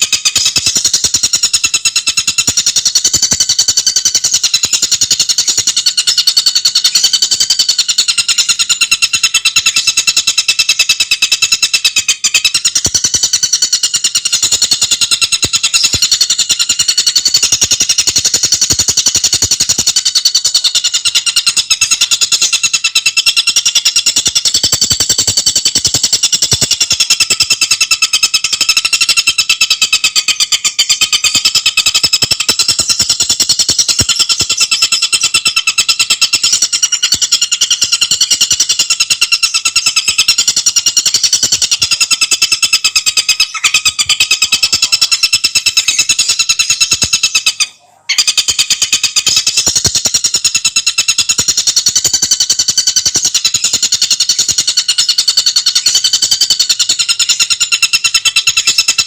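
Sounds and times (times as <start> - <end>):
bird rapid chatter: 0.0 - 59.0.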